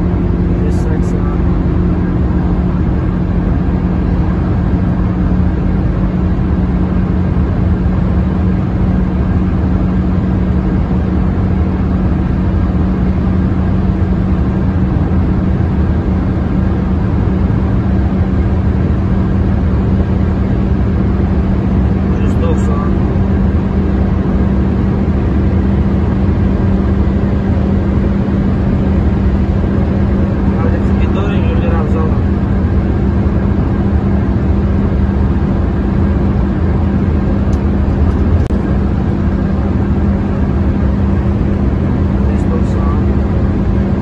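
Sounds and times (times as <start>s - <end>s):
car engine droning at high revs: 0.0s - 44.0s
wind and road noise: 0.0s - 44.0s.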